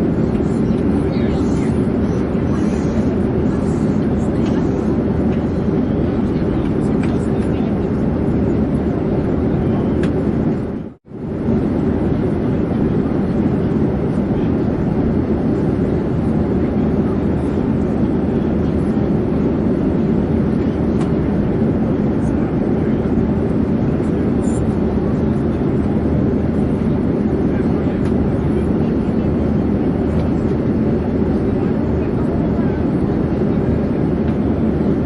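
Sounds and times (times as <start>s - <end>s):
airplane drone in flight: 0.0s - 35.0s.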